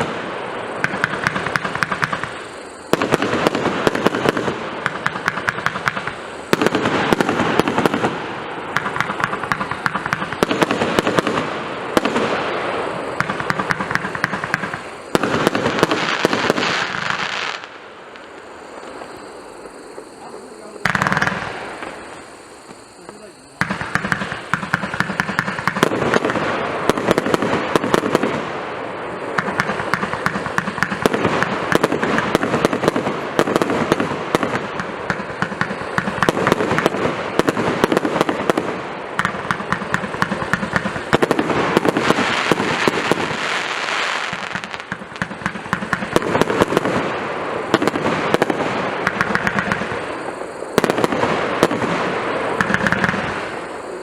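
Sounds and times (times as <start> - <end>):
fireworks crackling and bursting: 0.0 - 54.0.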